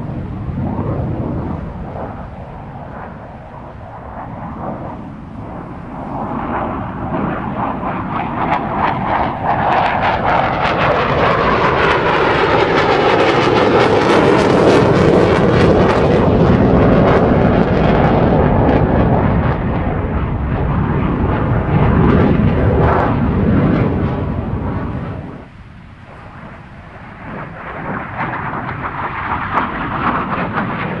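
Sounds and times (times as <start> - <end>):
crackling jet engine roar: 0.0 - 31.0.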